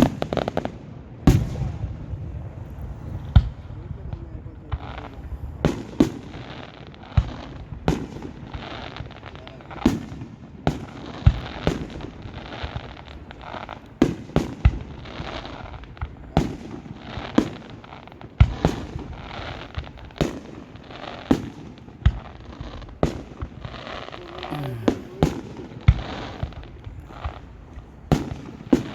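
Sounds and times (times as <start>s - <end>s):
fireworks crackling: 0.0s - 28.9s.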